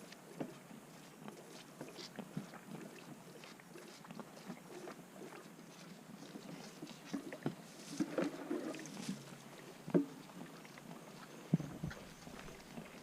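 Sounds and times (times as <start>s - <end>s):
cattle eating: 0.0s - 13.0s.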